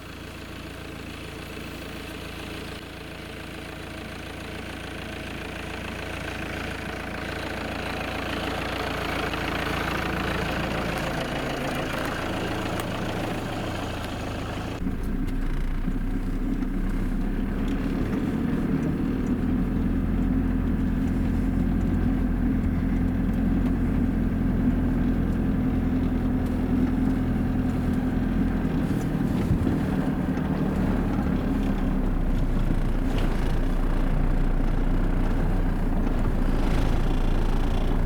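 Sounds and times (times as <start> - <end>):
vehicle engine humming: 0.0 - 38.0
road noise: 1.5 - 38.0.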